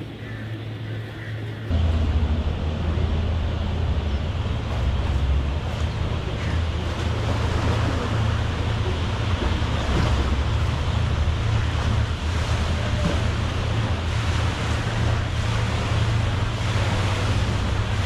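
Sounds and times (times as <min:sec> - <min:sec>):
river water rushing: 0:01.7 - 0:18.0.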